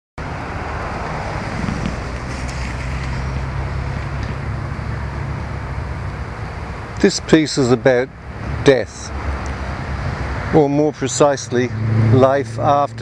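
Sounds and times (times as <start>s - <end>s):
outdoor background rumble and hiss: 0.2s - 13.0s.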